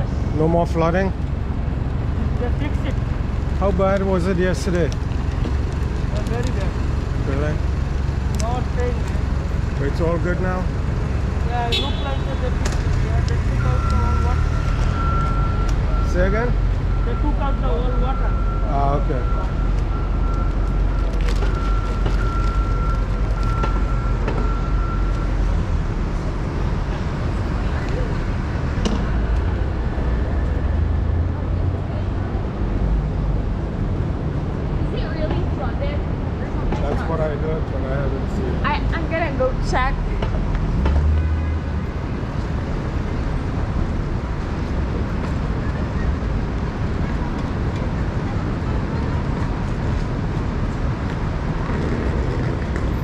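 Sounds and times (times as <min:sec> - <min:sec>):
traffic rumble: 0:00.0 - 0:53.0.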